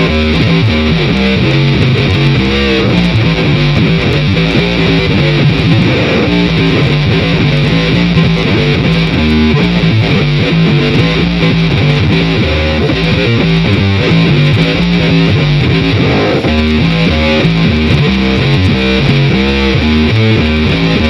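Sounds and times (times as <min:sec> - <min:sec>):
bass line: 0:00.0 - 0:21.0
distorted strummed electric guitar: 0:00.0 - 0:21.0.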